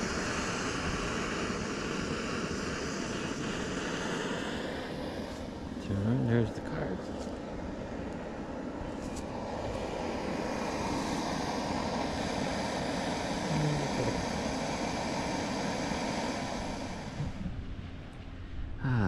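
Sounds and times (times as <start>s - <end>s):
camping stove burning hiss: 0.0s - 18.1s.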